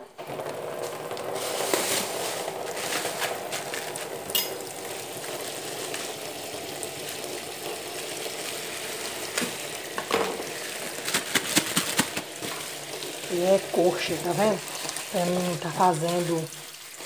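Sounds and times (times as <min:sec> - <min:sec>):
plastic bags crinkling: 0:00.2 - 0:09.7, 0:10.4 - 0:17.0.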